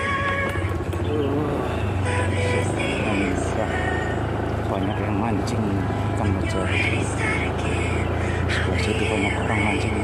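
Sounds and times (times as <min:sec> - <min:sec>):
background music: 0:00.0 - 0:10.0
motorcycle engine running: 0:00.0 - 0:10.0.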